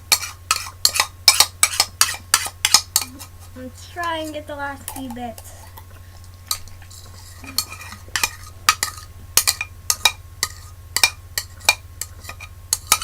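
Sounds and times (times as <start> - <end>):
fork clinking and scraping on dish: 0.1 - 4.2, 6.5 - 13.0.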